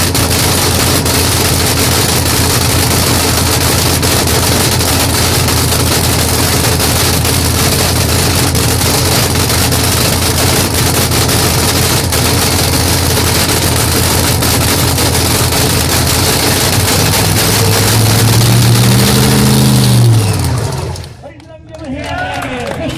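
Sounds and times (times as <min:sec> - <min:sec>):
race car engine fast idle: 0:00.0 - 0:21.2.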